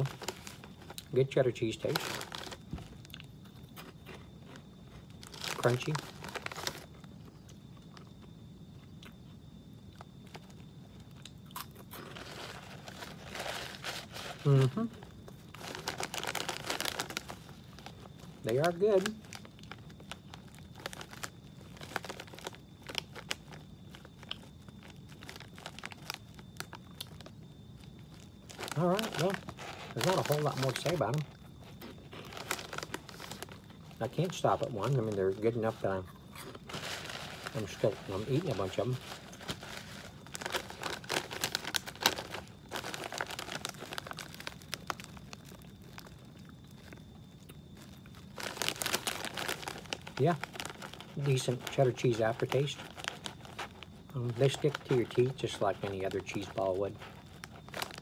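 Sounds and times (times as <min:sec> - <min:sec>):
crunchy snack chewing: 0:00.0 - 0:58.0
snack bag crinkling: 0:00.0 - 0:58.0.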